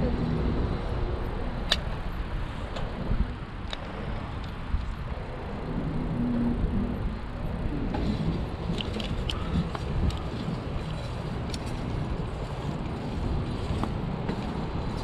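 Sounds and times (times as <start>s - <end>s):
bicycle ticks and rattles: 0.0s - 15.0s
wind and tyre rumble: 0.0s - 15.0s.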